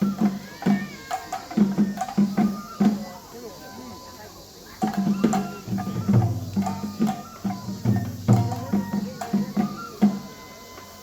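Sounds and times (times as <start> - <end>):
taiko drums beating: 0.0 - 3.3, 4.8 - 11.0.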